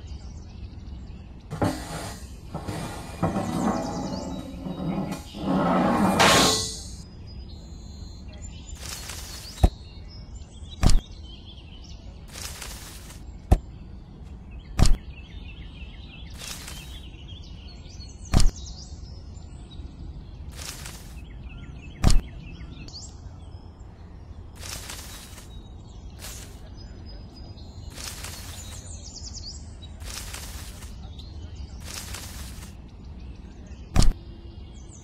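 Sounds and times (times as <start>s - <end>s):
faint birdsong: 0.0s - 35.0s.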